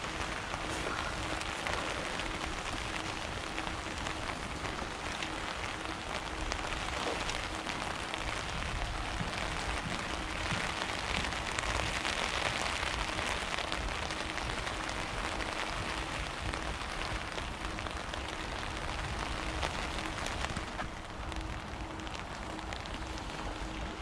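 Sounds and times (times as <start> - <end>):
low rumble: 0.0 - 24.0
rain falling on a surface: 0.0 - 24.0.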